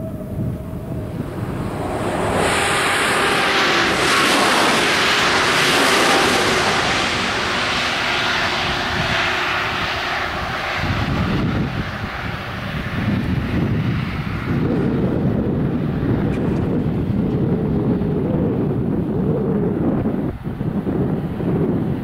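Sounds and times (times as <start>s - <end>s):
passenger train rushing past: 0.0s - 18.7s
low rumble: 0.0s - 21.3s.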